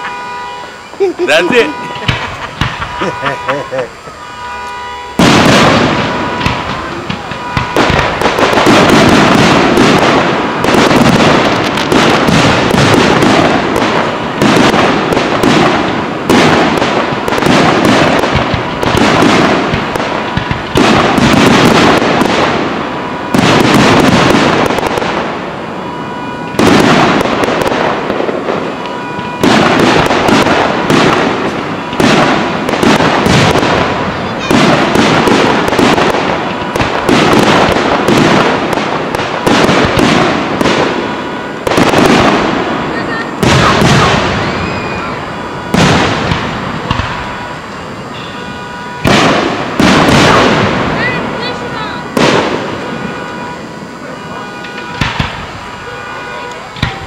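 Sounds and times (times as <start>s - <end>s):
fireworks bursting with loud bangs: 0.0s - 57.0s.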